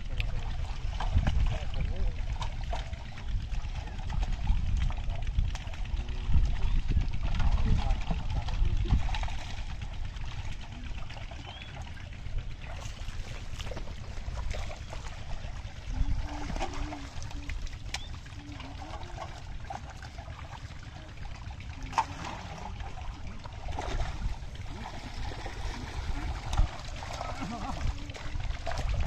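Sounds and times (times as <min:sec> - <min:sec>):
muddy water sloshing and trickling: 0:00.0 - 0:29.0
small splashes: 0:00.0 - 0:29.0.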